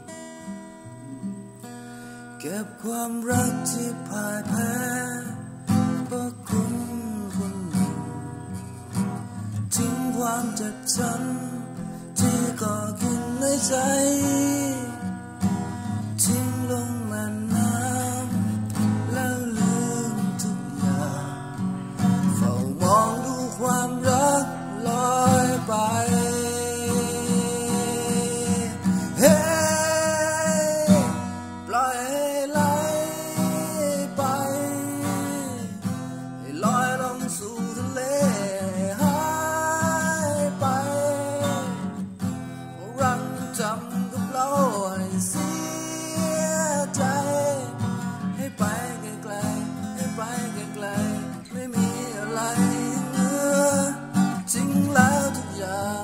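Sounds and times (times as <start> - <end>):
acoustic guitar strumming: 0.0 - 56.0
man singing: 2.4 - 8.6, 9.6 - 56.0.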